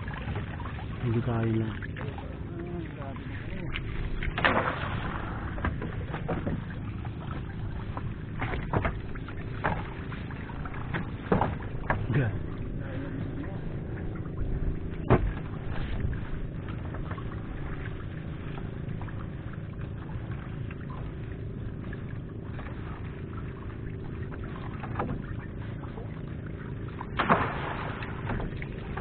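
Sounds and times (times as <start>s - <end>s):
low engine hum: 0.0s - 29.0s
water pouring and splashing: 0.0s - 29.0s.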